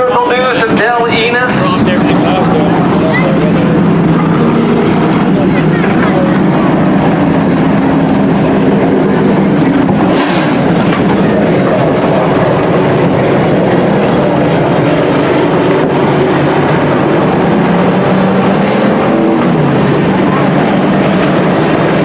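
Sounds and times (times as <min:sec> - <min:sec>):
racing truck engines: 0:00.0 - 0:22.0.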